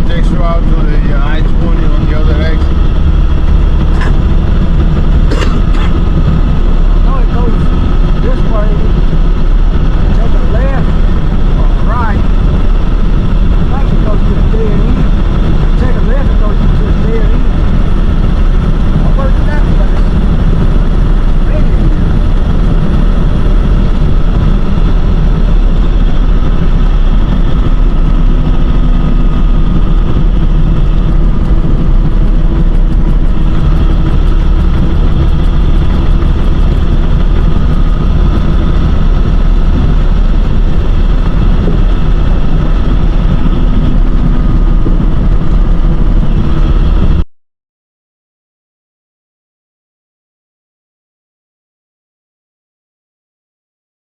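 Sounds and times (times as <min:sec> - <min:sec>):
truck engine and road noise: 0:00.0 - 0:47.2.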